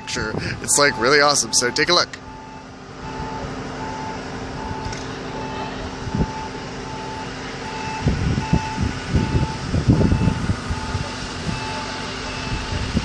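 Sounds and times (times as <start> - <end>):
engine hum: 0.0 - 13.0
vehicle reversing beeper: 0.0 - 13.0.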